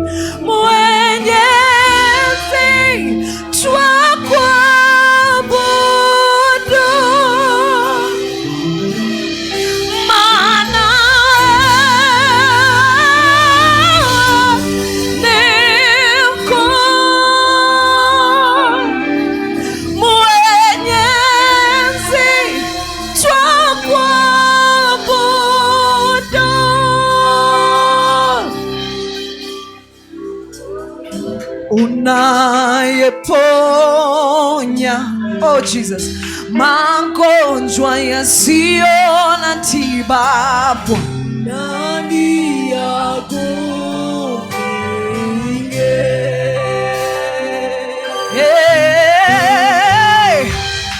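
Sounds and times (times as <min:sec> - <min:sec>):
person singing long vibrato notes: 0:00.0 - 0:29.9, 0:30.7 - 0:50.9
instrumental accompaniment: 0:00.0 - 0:50.9.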